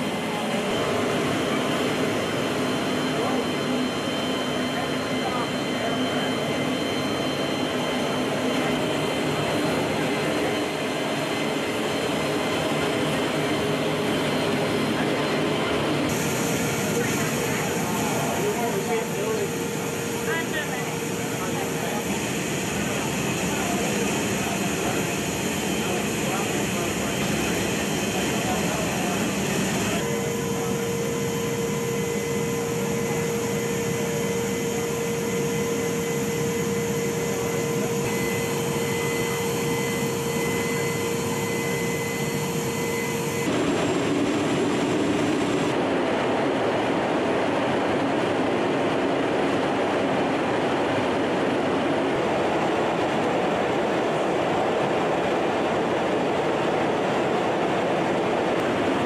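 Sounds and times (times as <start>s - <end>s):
jet engines and airflow in flight: 0.0s - 59.0s.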